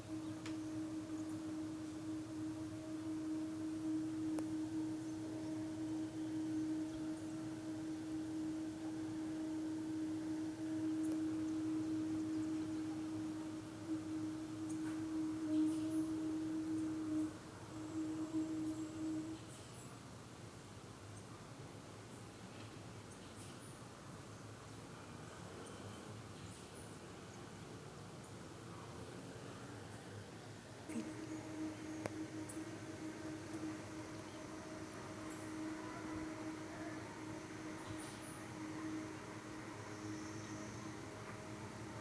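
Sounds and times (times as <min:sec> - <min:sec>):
steady humming tone: 0:00.0 - 0:42.0.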